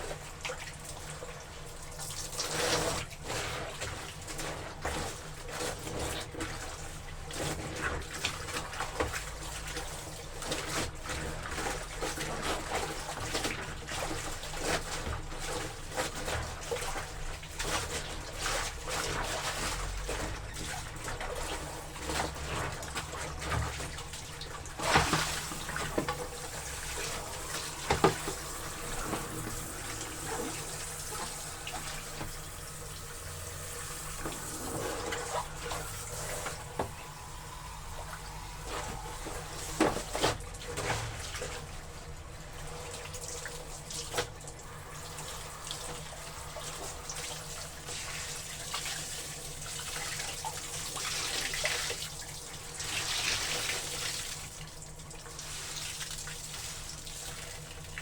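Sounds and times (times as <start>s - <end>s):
clothes splashing in water: 0.0s - 58.0s.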